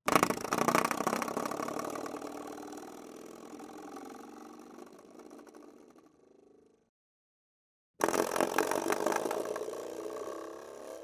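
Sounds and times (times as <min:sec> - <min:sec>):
rapid buzzing rattle: 0:00.1 - 0:06.5, 0:08.0 - 0:11.0.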